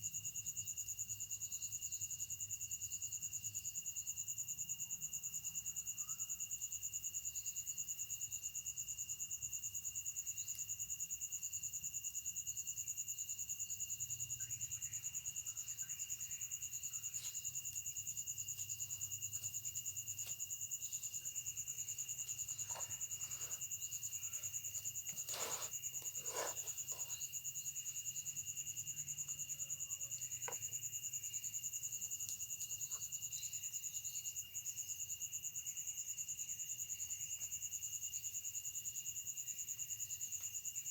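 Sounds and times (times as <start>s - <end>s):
night insects trilling: 0.0s - 40.9s.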